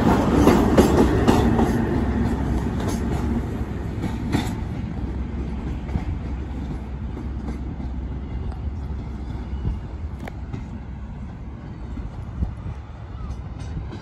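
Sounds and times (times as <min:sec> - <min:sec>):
train diesel engine rumbling: 0:00.0 - 0:14.0.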